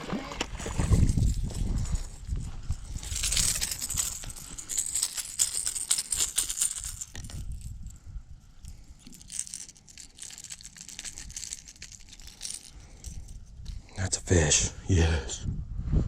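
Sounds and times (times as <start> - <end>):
rustling: 0.6 - 13.9.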